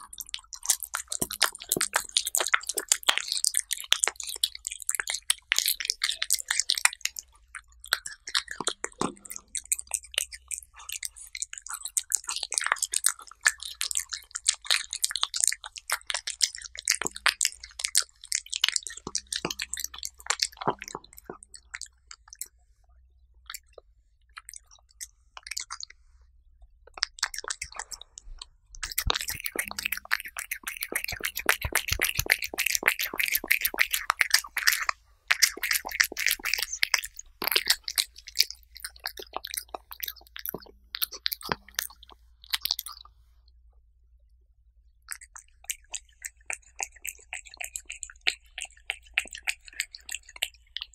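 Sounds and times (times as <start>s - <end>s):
cat licking and chewing: 0.0s - 22.8s, 23.4s - 43.2s, 45.1s - 50.9s.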